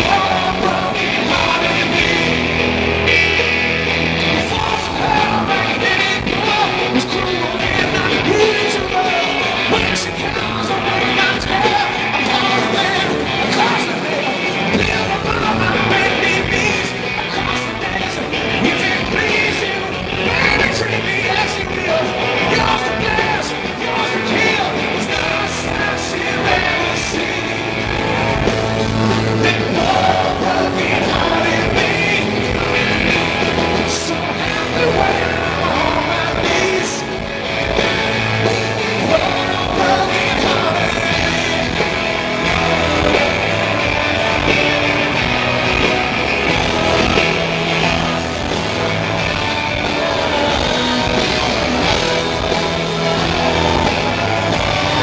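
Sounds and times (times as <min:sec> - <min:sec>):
bass guitar: 0:00.0 - 0:55.0
drums: 0:00.0 - 0:55.0
electric guitar: 0:00.0 - 0:55.0
person singing lead vocal: 0:00.0 - 0:55.0.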